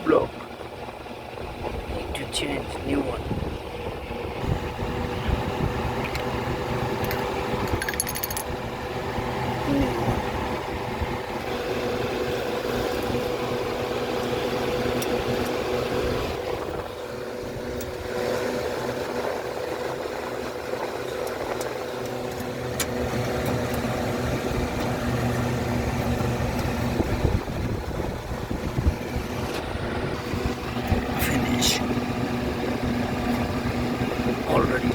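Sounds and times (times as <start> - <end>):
machinery humming: 0.0 - 34.9.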